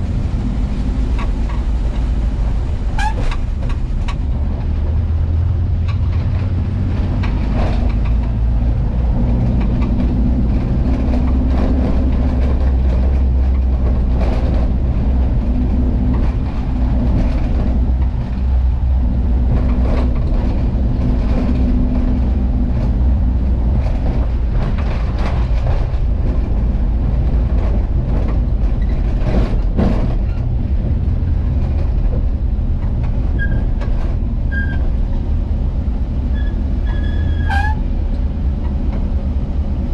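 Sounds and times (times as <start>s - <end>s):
knocks and rattles from road: 0.0s - 39.9s
van engine running: 0.0s - 39.9s.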